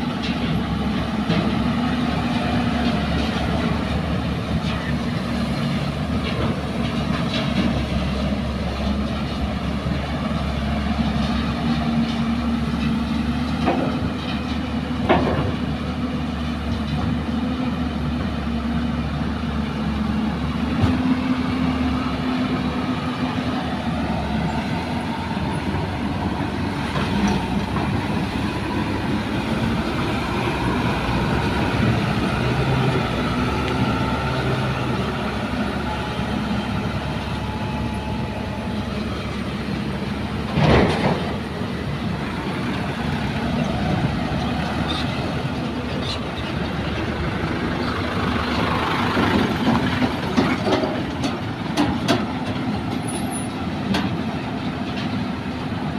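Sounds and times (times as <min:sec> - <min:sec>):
diesel engines running: 0:00.0 - 0:55.9
dump truck pulling away: 0:00.0 - 0:55.9.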